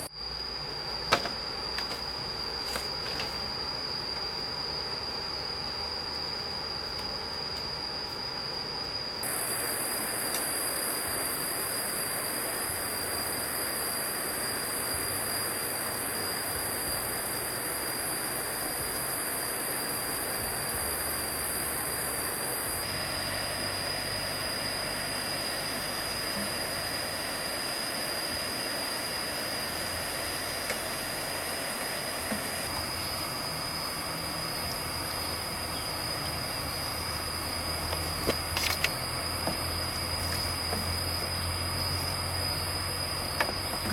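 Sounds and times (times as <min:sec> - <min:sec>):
shrill insect drone: 0:00.0 - 0:43.9
thin high tone: 0:01.3 - 0:43.9.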